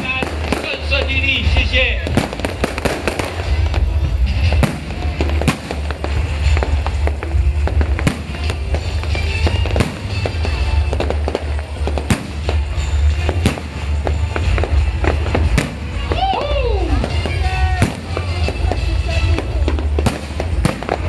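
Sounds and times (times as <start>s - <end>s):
fireworks bangs and crackles: 0.0s - 21.0s
rumble of distant fireworks: 0.0s - 21.0s.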